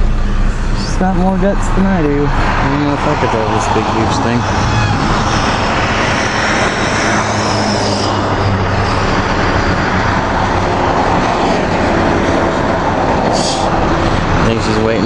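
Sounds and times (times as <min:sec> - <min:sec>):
road noise: 0:00.0 - 0:15.0
truck engine idling: 0:00.0 - 0:15.0.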